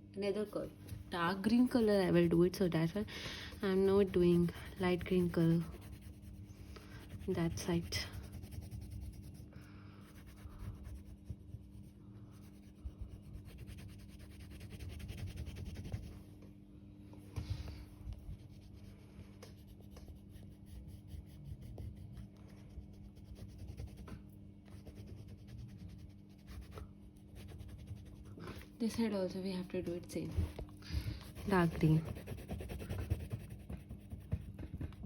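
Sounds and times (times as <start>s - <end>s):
low steady hum: 0.0s - 35.0s
colouring on paper scratching: 0.9s - 16.2s, 18.2s - 34.9s.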